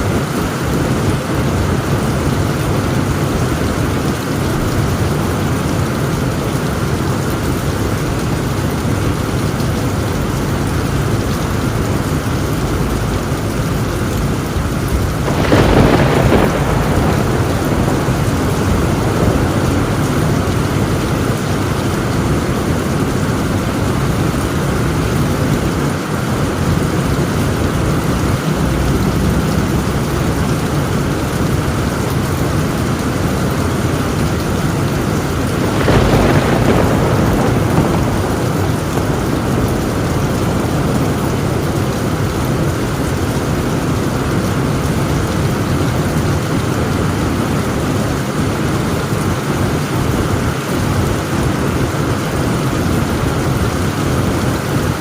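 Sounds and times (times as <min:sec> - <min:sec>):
heavy rain on a tin roof: 0:00.0 - 0:55.0
thunder rumbles: 0:00.0 - 0:55.0.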